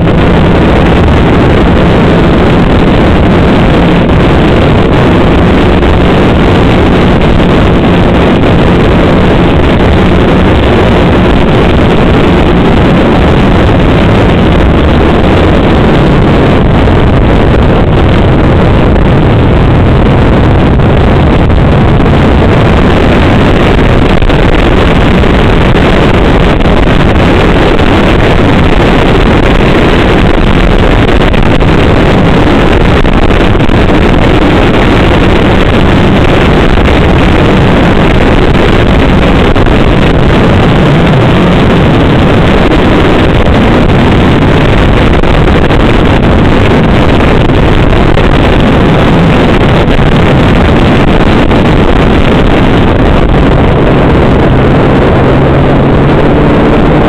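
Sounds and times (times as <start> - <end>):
snowmobile engine running: 0.0 - 57.0
wind on microphone: 0.0 - 57.0.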